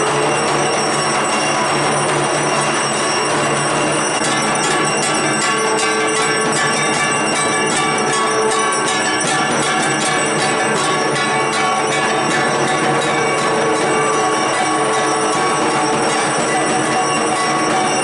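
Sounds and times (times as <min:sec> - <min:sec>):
bells ringing rapidly: 0:00.0 - 0:18.0.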